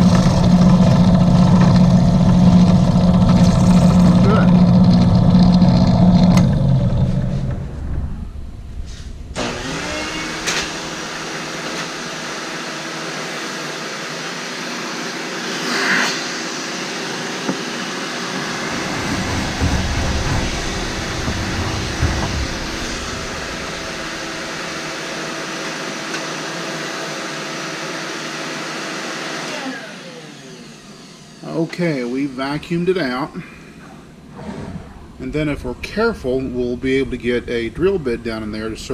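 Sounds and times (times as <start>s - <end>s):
vacuum cleaner whine: 0.0s - 7.7s, 8.9s - 33.9s.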